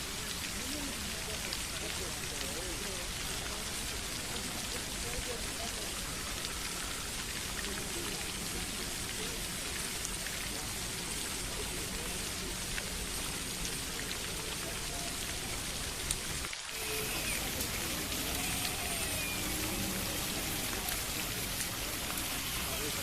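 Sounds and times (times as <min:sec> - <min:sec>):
water splashing: 0:00.0 - 0:23.0.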